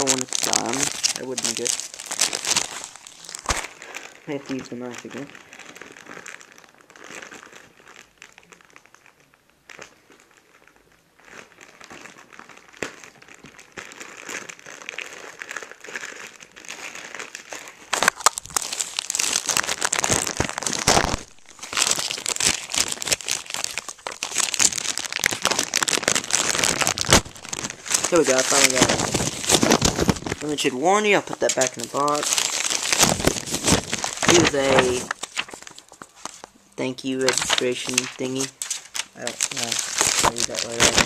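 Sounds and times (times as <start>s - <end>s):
plastic packaging crinkling: 0.0s - 41.0s.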